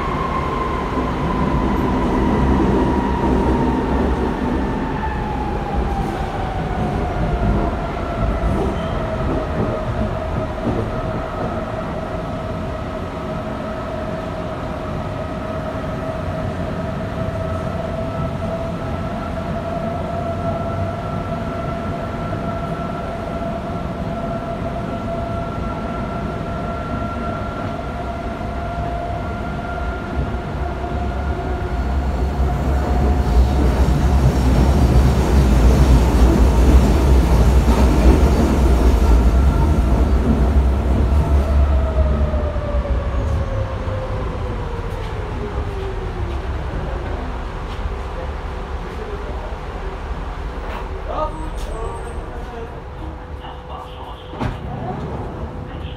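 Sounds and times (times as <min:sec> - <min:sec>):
train wheels rumbling on track: 0:00.0 - 0:55.9
train whine: 0:00.0 - 0:55.9.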